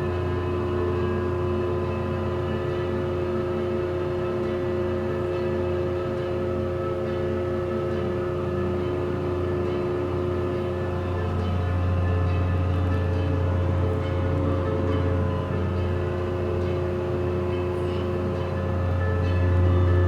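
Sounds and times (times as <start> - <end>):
cable car cabin hum: 0.0 - 20.0
steady whining tones: 0.0 - 20.0.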